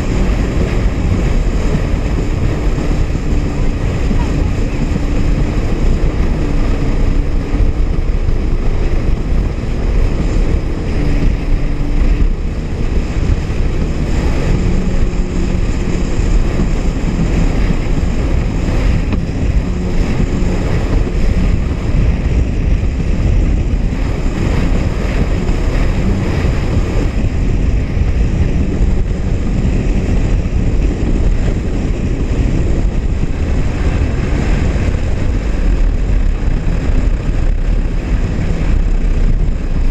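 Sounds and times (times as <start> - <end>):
jet ski engine drone: 0.0 - 39.9
rushing water: 0.0 - 39.9
wind buffeting microphone: 0.0 - 39.9.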